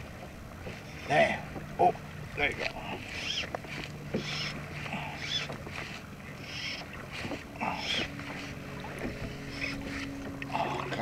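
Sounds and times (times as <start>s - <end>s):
water lapping against kayak hull: 0.0s - 11.0s.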